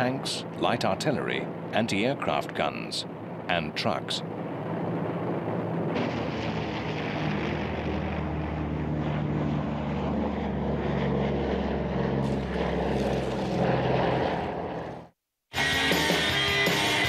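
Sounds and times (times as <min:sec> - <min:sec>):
propeller aircraft engines droning: 0:00.0 - 0:17.0.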